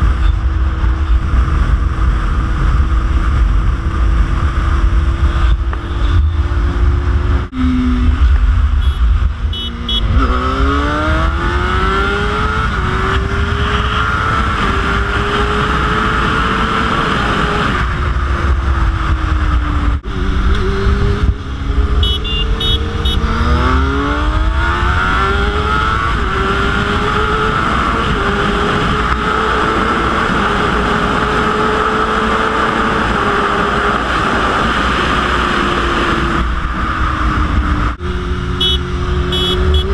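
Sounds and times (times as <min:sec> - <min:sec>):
motorcycle engine accelerating: 0:00.0 - 0:39.9
wind rumble on microphone: 0:00.0 - 0:39.9.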